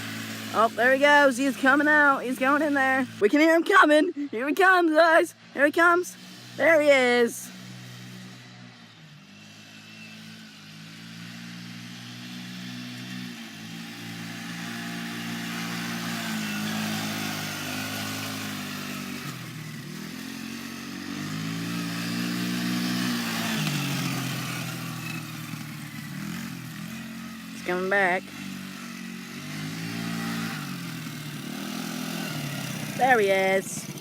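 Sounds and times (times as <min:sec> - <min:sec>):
off-road engine revving: 0:00.0 - 0:34.0.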